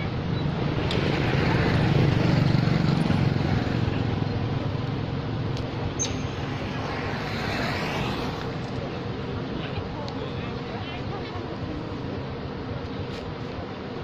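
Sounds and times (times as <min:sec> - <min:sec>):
outdoor noise: 0:00.0 - 0:14.0.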